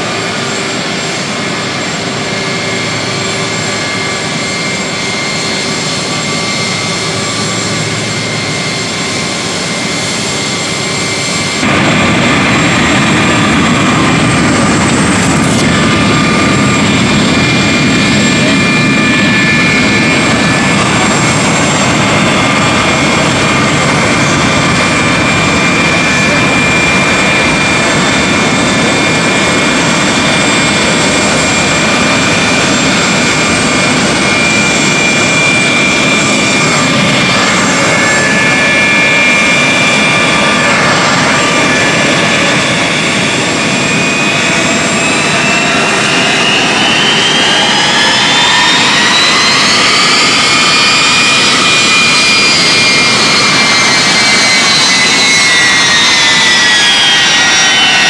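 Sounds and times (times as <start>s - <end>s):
jet engines rushing and whining: 0.0s - 58.0s.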